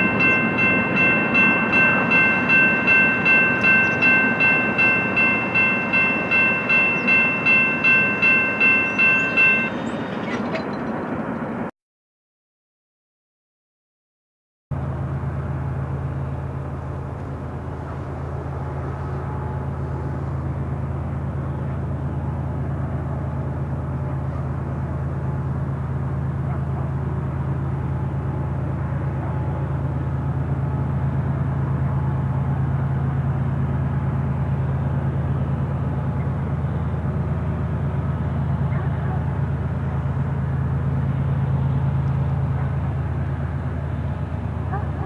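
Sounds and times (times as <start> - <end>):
locomotive diesel engines droning: 0.0 - 11.7, 14.7 - 45.0.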